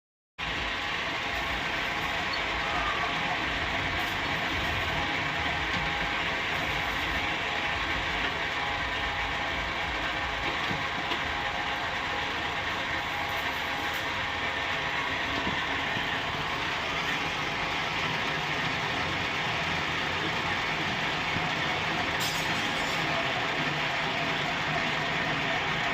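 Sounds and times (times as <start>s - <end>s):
metal lathe whirring: 0.4s - 25.9s.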